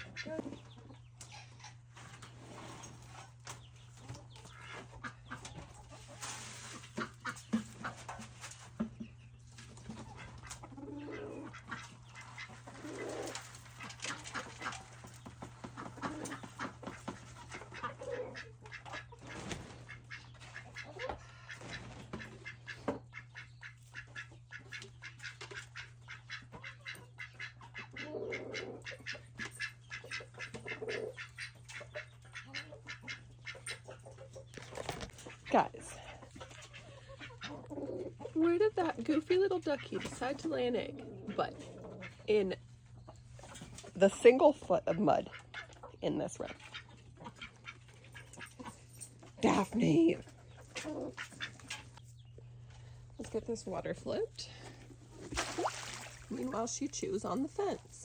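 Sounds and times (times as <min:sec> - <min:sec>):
chickens clucking: 0:00.0 - 0:58.0
steady low hum: 0:00.0 - 0:58.0.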